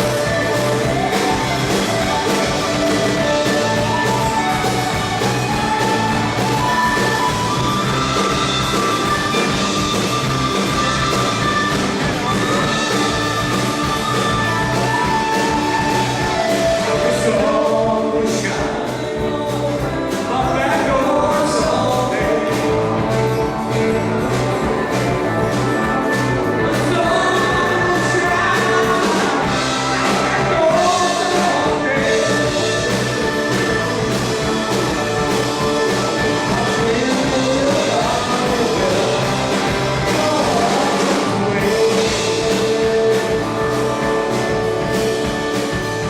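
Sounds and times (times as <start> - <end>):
live rock band playing: 0.0 - 46.0
person singing: 0.0 - 46.0.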